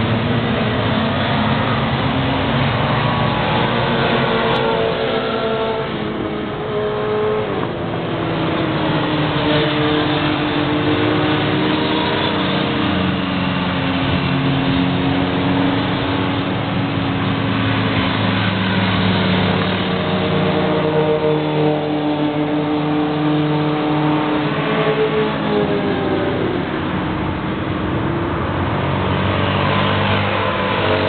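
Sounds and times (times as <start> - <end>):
motorcycle engines passing: 0.0 - 31.0.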